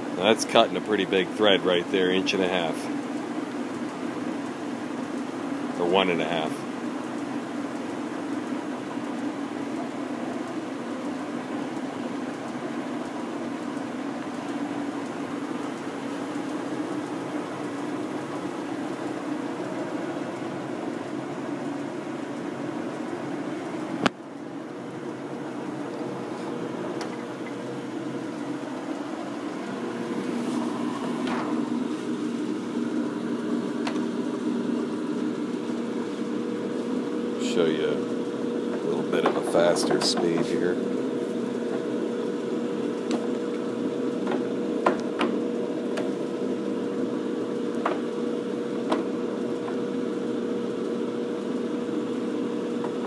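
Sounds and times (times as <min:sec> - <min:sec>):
lathe running: 0:00.0 - 0:53.0.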